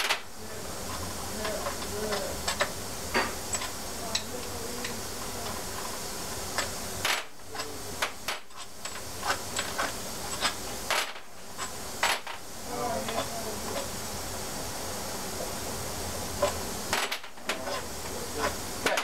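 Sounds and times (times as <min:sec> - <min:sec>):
short hissing bursts: 0:00.0 - 0:19.0.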